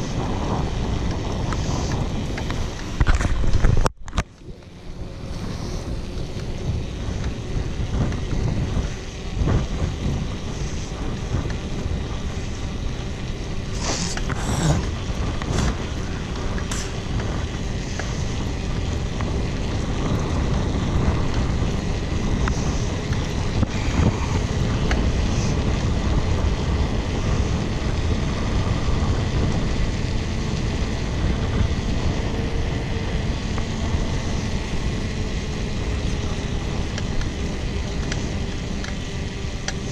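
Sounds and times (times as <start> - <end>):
bike tyres on asphalt: 0.0 - 39.9
wind buffeting microphone: 0.0 - 39.9.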